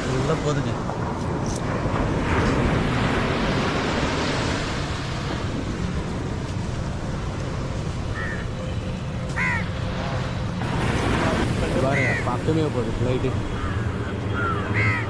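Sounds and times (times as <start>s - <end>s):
airplane flying overhead: 0.0s - 15.0s.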